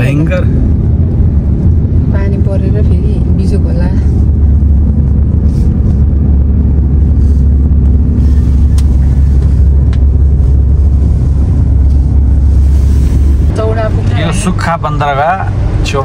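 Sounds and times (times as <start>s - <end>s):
vehicle road rumble: 0.0s - 16.0s.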